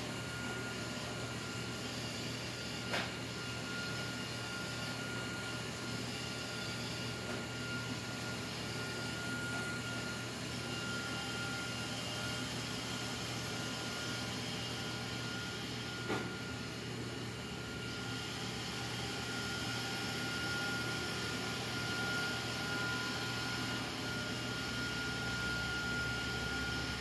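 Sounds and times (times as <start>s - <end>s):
mechanical hum and hiss: 0.0s - 27.0s.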